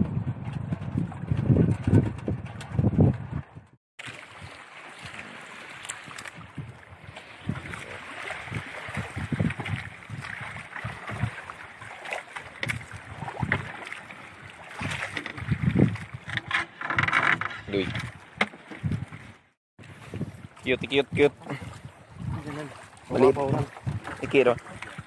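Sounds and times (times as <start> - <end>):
water sloshing against a boat: 0.0 - 25.0.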